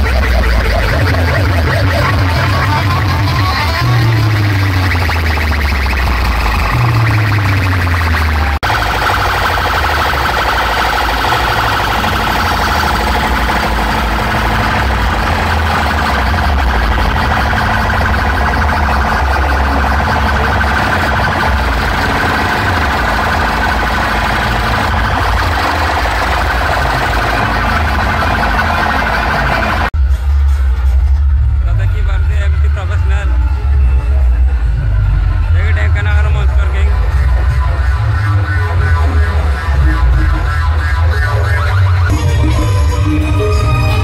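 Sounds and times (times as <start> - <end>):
warbling alarm-like electronic tone: 0.0 - 29.9, 32.4 - 44.0
pulsing deep bass: 0.0 - 44.0.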